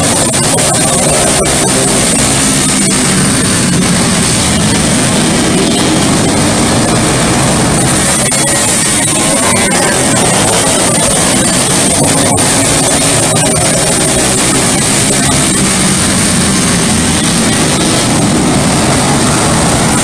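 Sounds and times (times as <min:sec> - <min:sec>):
go-kart engines at high revs: 0:00.0 - 0:20.0.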